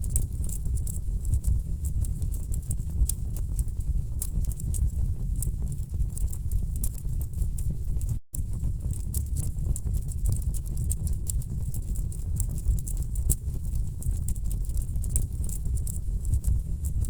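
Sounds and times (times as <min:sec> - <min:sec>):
low rumble of flames: 0:00.0 - 0:17.0.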